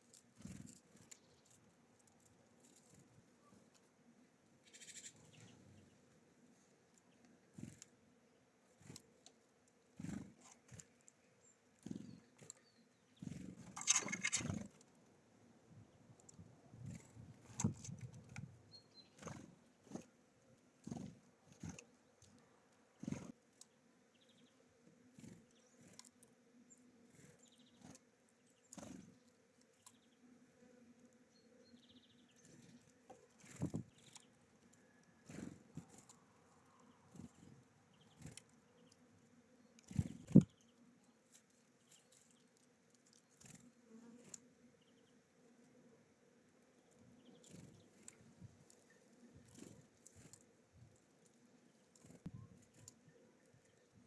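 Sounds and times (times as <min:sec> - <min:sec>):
birds pecking on a feeder: 0:00.0 - 0:54.0.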